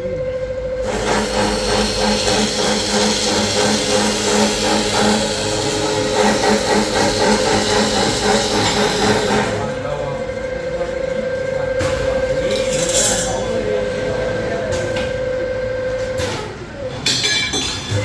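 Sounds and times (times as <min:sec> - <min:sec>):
cutting machine motor pulsing: 0:00.0 - 0:16.7.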